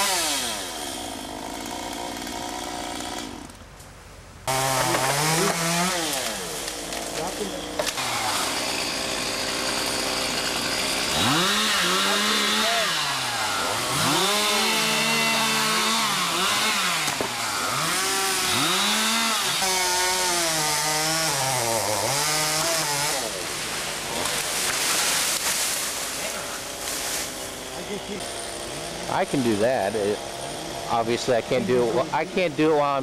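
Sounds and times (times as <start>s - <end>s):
chainsaw cutting wood: 0.0s - 3.6s, 4.4s - 33.0s.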